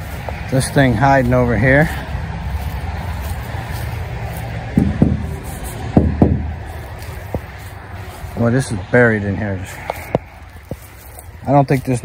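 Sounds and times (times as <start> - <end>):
footsteps through dry grass: 0.0 - 12.0
steady low rumble: 0.0 - 12.0.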